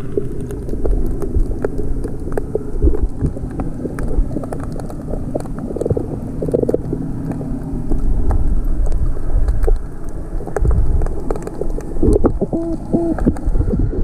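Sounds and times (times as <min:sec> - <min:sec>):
muffled underwater rumble: 0:00.0 - 0:14.0
small underwater clicks and crackles: 0:00.0 - 0:14.0.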